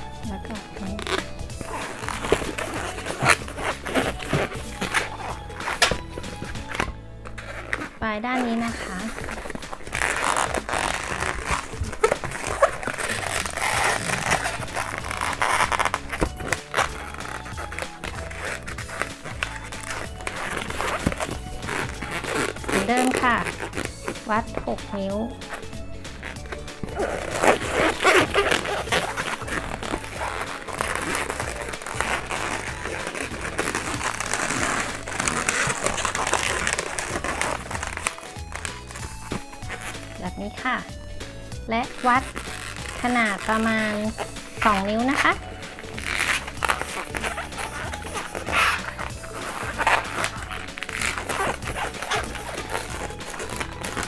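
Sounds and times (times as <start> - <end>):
balloon squeaking and rubbing: 0.0 - 54.0.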